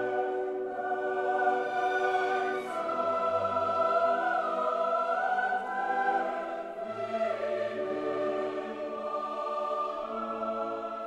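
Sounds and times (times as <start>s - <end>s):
operatic choral singing: 0.0s - 11.0s.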